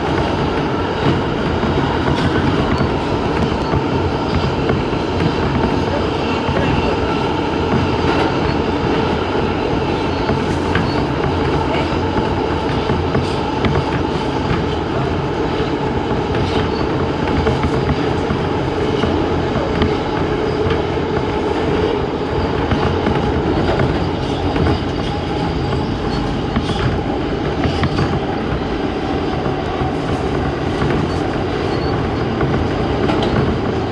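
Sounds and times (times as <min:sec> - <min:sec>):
subway train rumble: 0:00.0 - 0:33.9
train whine: 0:00.0 - 0:33.9
wheels clicking over rail joints: 0:00.0 - 0:33.9.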